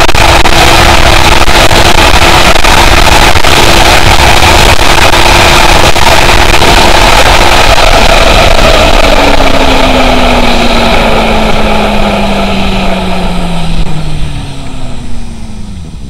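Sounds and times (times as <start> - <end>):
motorcycle engine at high revs: 0.0 - 16.0
wind buffeting microphone: 0.0 - 16.0.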